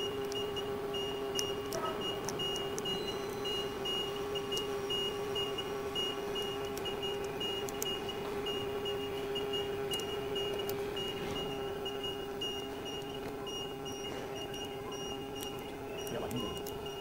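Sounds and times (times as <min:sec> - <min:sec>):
workshop machinery hum: 0:00.0 - 0:17.0
faint high beep: 0:01.0 - 0:17.0.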